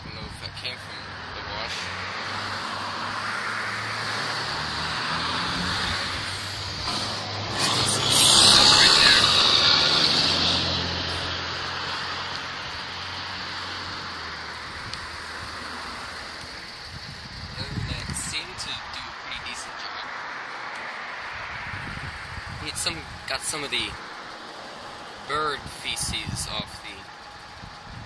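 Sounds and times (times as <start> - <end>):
vehicle engine running: 1.7 - 20.5, 21.6 - 28.0
rushing hiss: 1.7 - 27.9.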